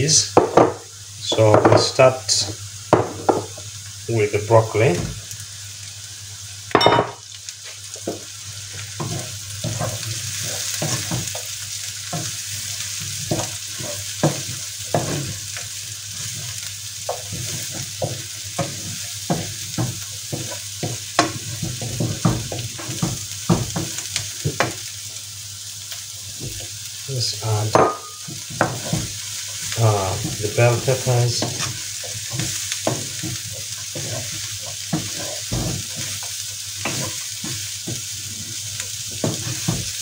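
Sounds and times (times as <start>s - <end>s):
broccoli sizzling in frying pan: 0.0s - 40.0s
wooden spoon knocking and scraping pan: 0.4s - 3.7s, 7.9s - 24.9s, 26.3s - 26.8s, 27.5s - 40.0s.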